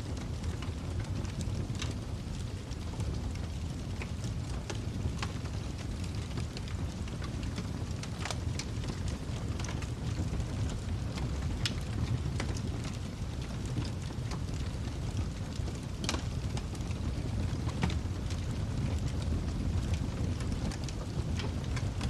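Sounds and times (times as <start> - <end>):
fire crackling and popping: 0.0 - 22.0
low roar of flames: 0.0 - 22.0.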